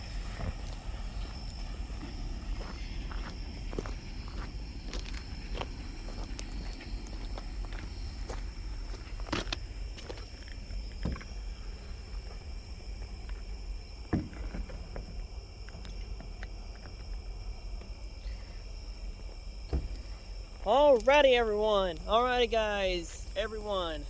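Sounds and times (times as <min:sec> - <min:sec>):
low steady rumble: 0:00.0 - 0:24.0
night insects trilling: 0:00.0 - 0:24.0.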